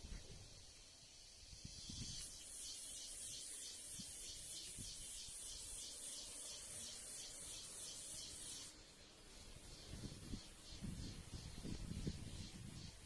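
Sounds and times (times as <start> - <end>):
pulsing hissing insect buzz: 0.0 - 13.0.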